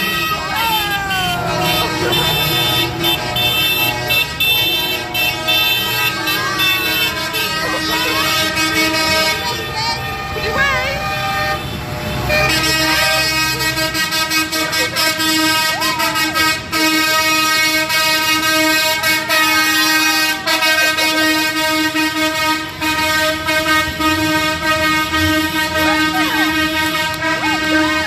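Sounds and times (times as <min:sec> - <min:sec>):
vehicle horn sounding: 0:00.0 - 0:28.0
vehicle noise: 0:00.0 - 0:28.0.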